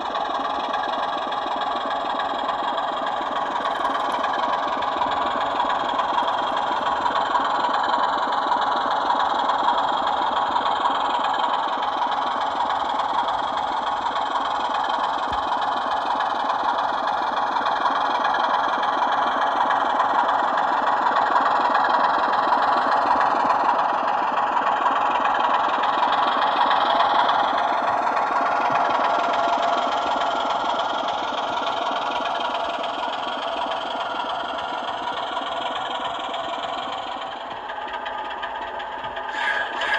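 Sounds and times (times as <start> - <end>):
diesel engine sound through speakers: 0.0 - 39.9.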